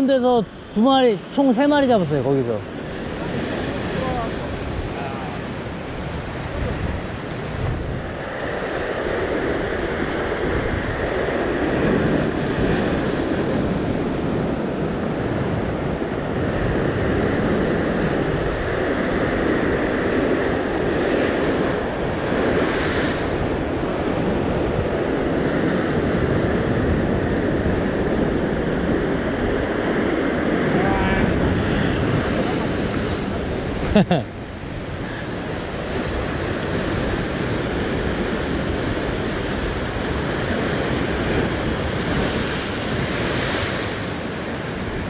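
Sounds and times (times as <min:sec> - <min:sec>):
surf breaking over rocks: 0:00.0 - 0:45.0
wind buffeting microphone: 0:00.0 - 0:45.0.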